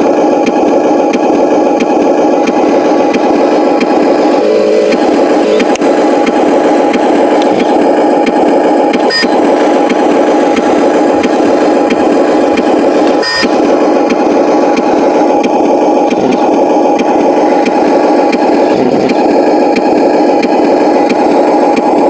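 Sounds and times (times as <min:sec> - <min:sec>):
toy truck mechanical drone: 0:00.0 - 0:22.0.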